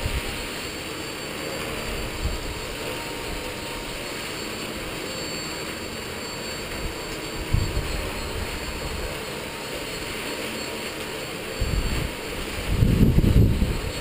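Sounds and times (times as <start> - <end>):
model helicopter whirring whine: 0.0 - 14.0.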